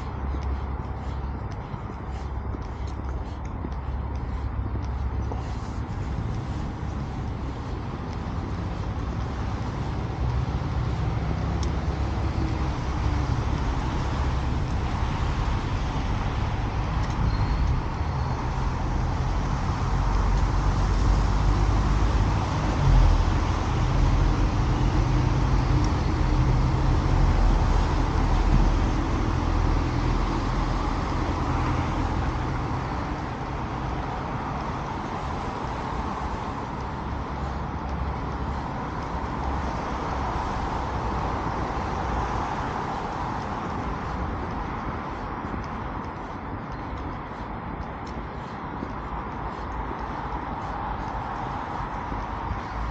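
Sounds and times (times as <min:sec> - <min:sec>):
cars passing: 0:00.0 - 0:52.9
vehicle rumble and tyre noise: 0:00.0 - 0:52.9.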